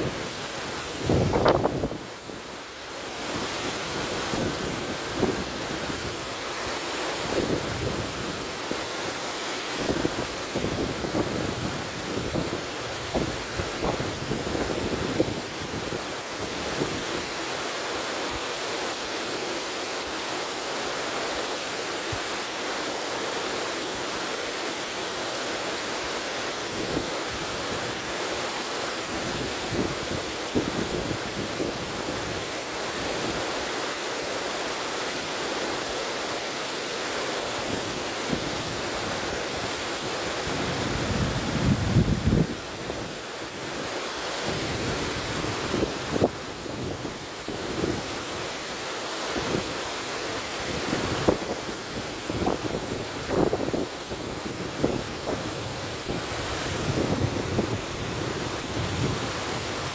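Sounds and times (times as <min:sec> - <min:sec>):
wind gusting against microphone: 0:00.0 - 0:18.6, 0:25.7 - 0:34.0, 0:37.5 - 0:59.9
river rushing: 0:00.0 - 0:59.9.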